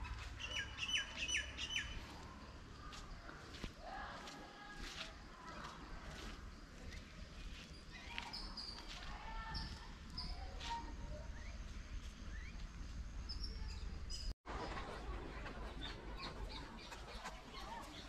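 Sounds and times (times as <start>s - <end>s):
birds chirping: 0.0s - 3.7s, 5.3s - 18.0s.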